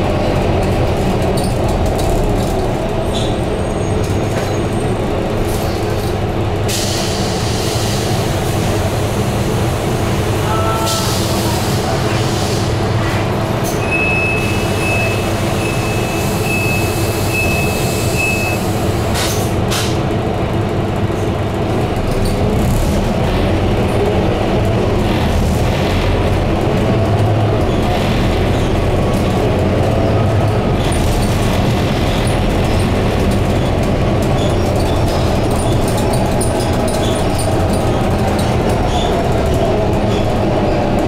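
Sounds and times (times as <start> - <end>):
bus diesel engine running: 0.0 - 41.0.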